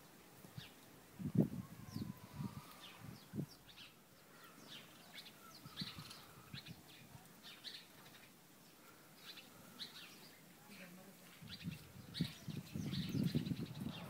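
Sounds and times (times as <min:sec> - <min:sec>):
birds chirping: 0:01.6 - 0:14.0.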